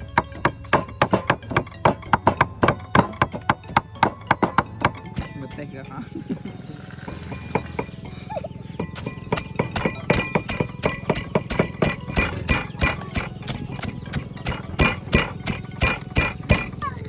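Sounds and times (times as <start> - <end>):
wooden pestle pounding in mortar: 0.0 - 5.7, 8.8 - 16.8.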